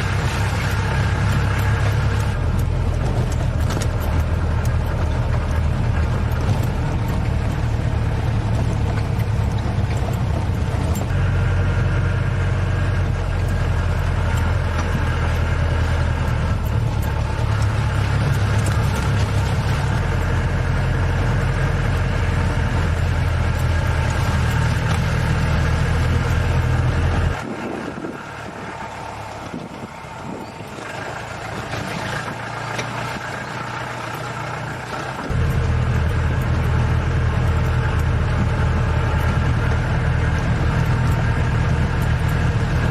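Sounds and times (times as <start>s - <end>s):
vehicle engine humming: 0.0s - 42.9s.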